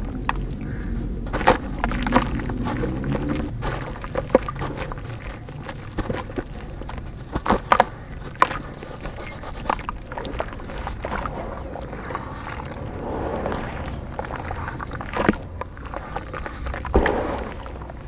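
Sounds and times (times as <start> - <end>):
dirt crunching in hand: 0.0 - 18.0.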